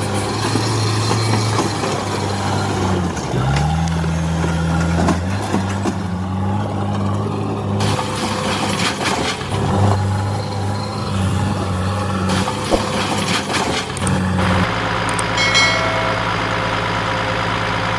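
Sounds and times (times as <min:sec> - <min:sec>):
heavy vehicle engine running: 0:00.0 - 0:17.9.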